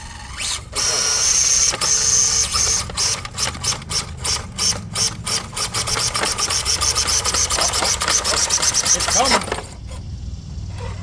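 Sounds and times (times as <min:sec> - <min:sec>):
rc car motor whining: 0:00.0 - 0:11.0.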